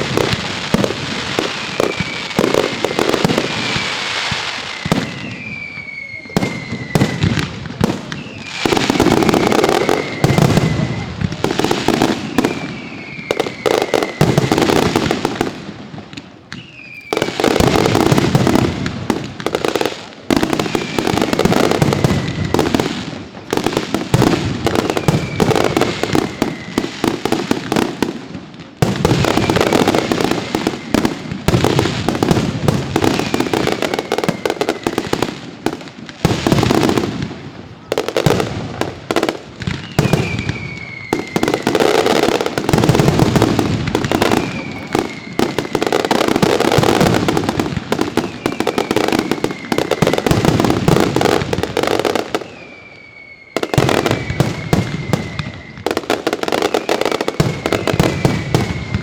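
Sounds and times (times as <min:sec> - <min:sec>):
falling firework whistle: 0:00.0 - 0:59.0
fireworks bangs and crackling: 0:00.0 - 0:59.0.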